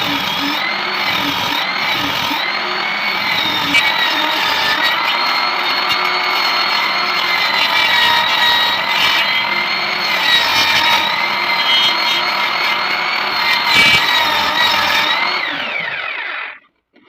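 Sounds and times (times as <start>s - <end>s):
power tool motor whining: 0.0s - 16.7s.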